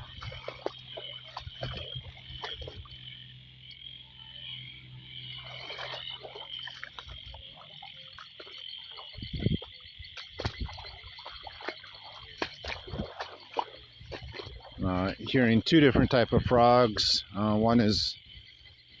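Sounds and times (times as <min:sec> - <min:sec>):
deep frog calls: 0:00.0 - 0:19.0
high-pitched frog trilling chorus: 0:00.0 - 0:19.0.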